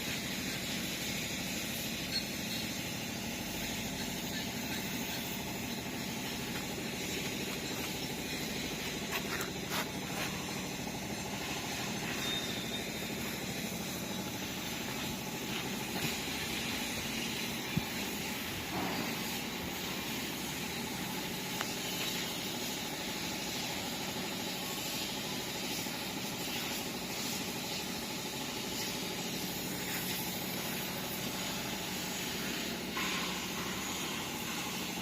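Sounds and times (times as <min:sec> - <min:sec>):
small diesel engine running: 0:00.0 - 0:35.0.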